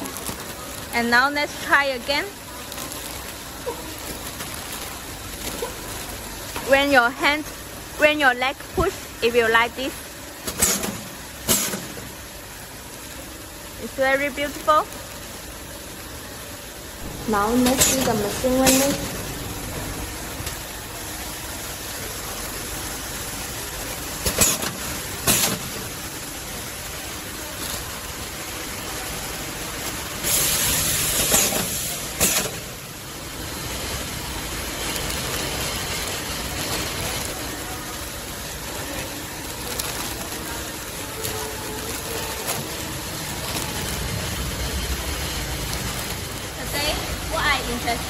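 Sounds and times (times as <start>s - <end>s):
bag-closing machine running: 0.0s - 48.0s.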